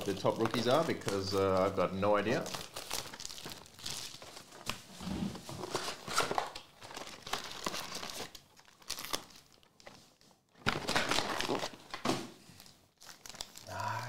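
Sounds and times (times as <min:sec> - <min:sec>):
cardboard box and foil packs rustling: 0:00.0 - 0:13.8.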